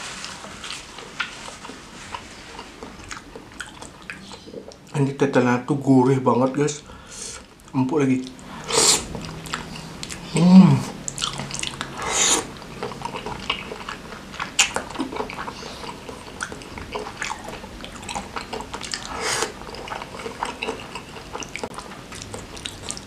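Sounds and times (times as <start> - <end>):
wet chewing and smacking: 0.1 - 5.0, 7.4 - 23.0.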